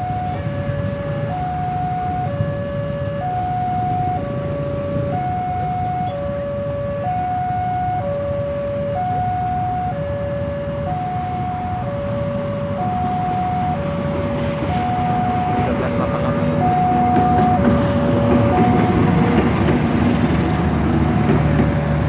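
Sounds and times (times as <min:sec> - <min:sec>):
level crossing two-tone alarm: 0:00.0 - 0:19.4.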